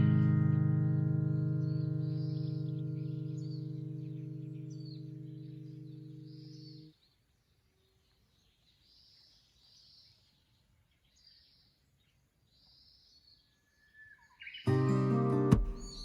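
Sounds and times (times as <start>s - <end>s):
faint high bird chirps: 0.0s - 14.8s.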